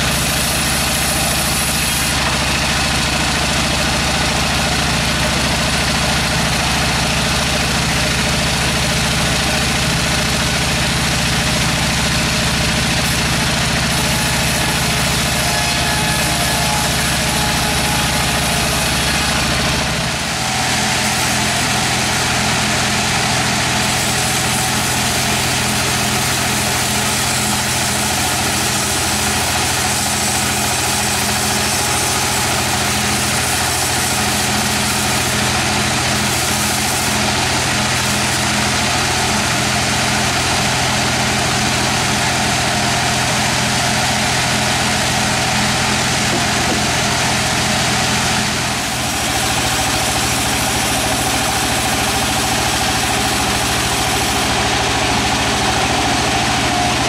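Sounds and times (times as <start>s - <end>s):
sawmill machinery hum: 0.0s - 57.0s.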